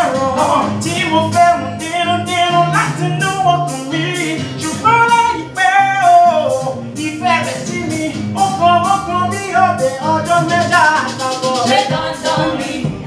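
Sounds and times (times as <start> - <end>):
man singing into microphone: 0.0 - 12.9
backing track with steady beat: 0.0 - 13.0.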